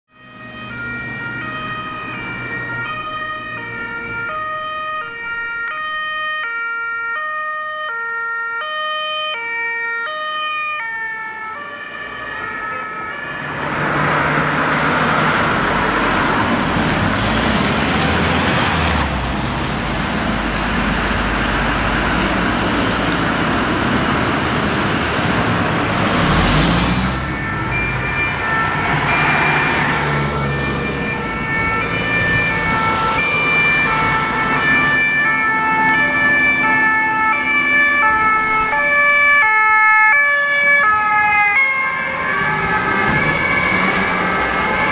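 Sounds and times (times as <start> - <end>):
two-tone emergency siren: 0.1 - 16.9, 20.3 - 44.9
passing road traffic: 0.1 - 44.9.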